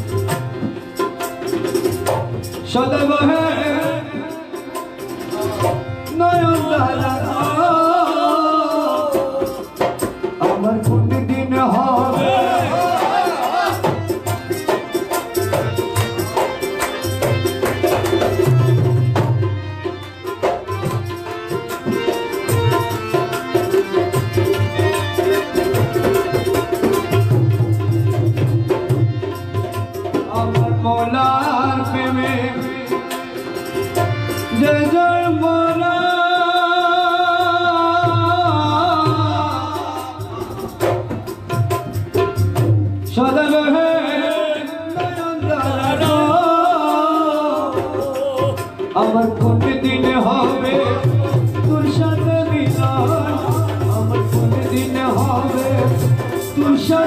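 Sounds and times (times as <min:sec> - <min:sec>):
hand drums fast rhythm: 0:00.0 - 0:19.5, 0:20.2 - 0:34.8, 0:38.0 - 0:43.3, 0:44.8 - 0:57.0
harmonium: 0:00.0 - 0:57.0.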